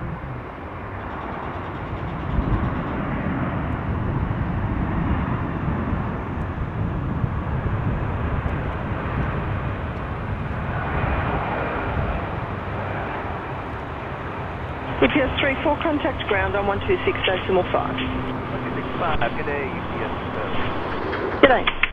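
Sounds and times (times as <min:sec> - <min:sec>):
jet engines rushing: 0:00.0 - 0:21.9
low rumble: 0:00.0 - 0:21.9.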